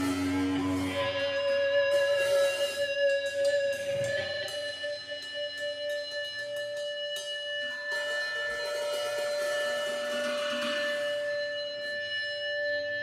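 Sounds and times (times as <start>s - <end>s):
sharp drum or cymbal taps: 0.0s - 11.4s
live rock band playing: 0.0s - 12.6s
electric guitar sustained note: 0.0s - 13.0s.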